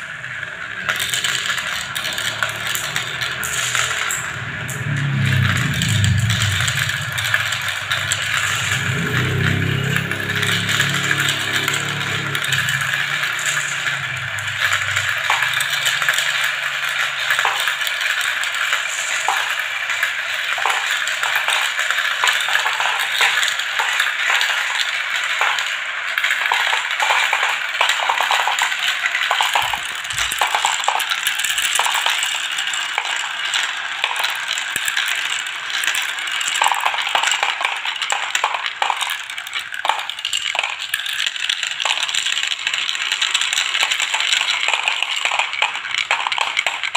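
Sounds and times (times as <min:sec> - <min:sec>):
plastic balls rattling in marble run: 0:00.0 - 0:46.9.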